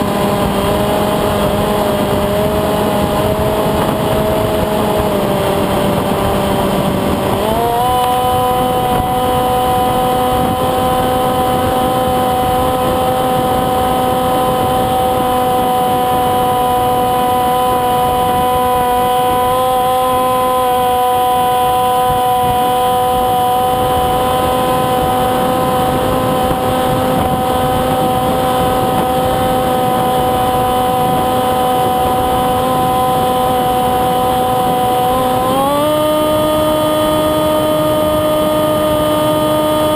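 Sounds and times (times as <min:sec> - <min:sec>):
model plane propeller drone: 0:00.0 - 0:39.9
noisy rush: 0:00.0 - 0:39.9.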